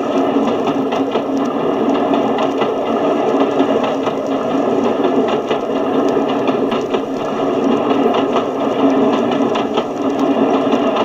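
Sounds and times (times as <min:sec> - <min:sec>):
train rushing on record player: 0:00.0 - 0:11.0.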